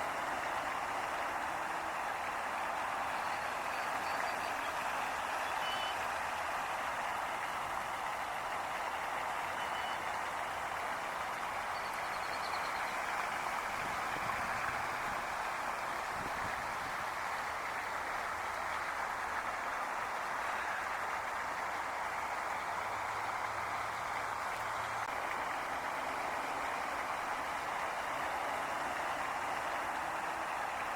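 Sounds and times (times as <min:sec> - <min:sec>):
flowing water rushing: 0:00.0 - 0:30.9.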